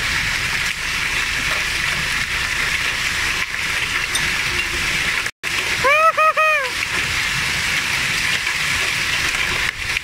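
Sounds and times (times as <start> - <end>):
heavy rain and hail: 0.0 - 10.0.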